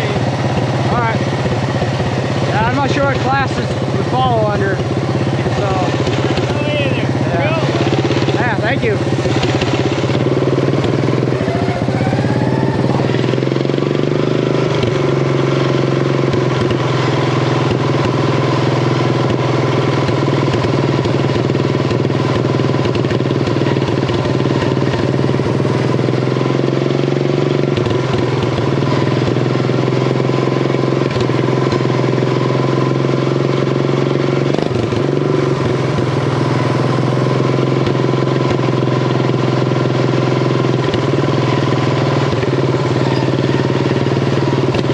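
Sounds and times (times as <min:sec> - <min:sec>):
riding mower engine running hard: 0:00.0 - 0:44.9.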